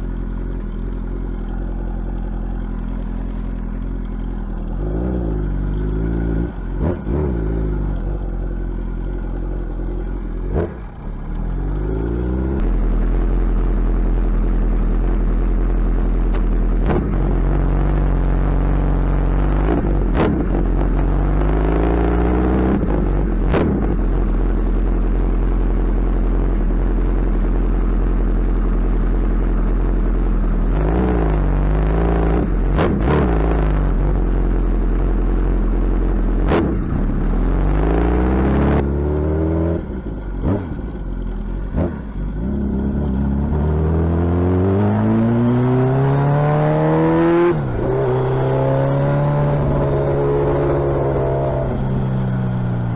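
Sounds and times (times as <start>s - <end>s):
deep rumble: 0.0s - 52.9s
motorcycle engine revving: 0.0s - 52.9s.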